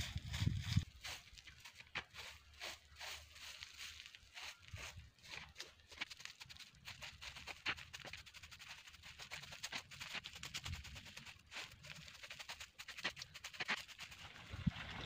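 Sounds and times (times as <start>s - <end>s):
stick scraping dry dirt: 0.0s - 15.0s.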